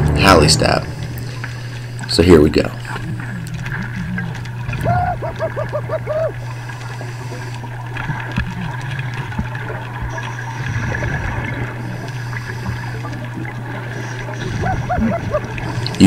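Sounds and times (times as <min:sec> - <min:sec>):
steady low hum: 0:00.0 - 0:16.0
underwater water noise: 0:00.0 - 0:16.0.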